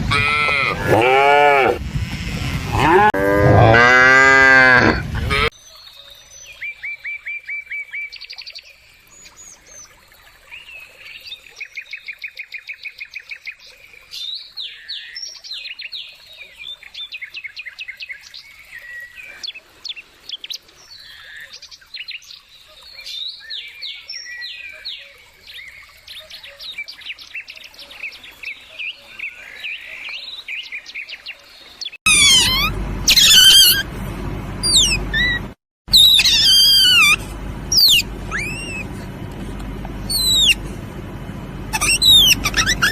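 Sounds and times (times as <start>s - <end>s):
songbirds chirping and trilling: 0.0s - 42.9s.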